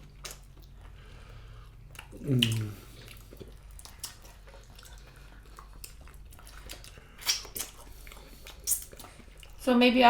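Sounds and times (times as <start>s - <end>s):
wet chewing sounds: 0.0s - 9.7s
low room hum: 0.0s - 10.0s.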